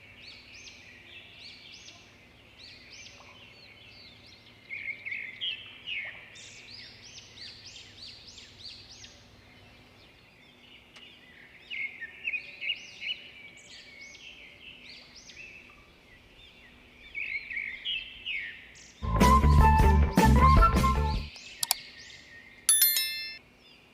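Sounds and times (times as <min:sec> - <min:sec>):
small songbirds chirping: 0:00.0 - 0:19.0, 0:21.3 - 0:23.9.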